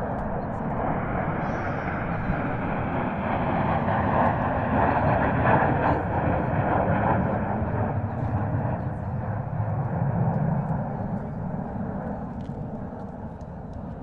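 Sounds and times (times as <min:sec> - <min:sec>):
military aircraft roaring overhead: 0:00.0 - 0:14.0.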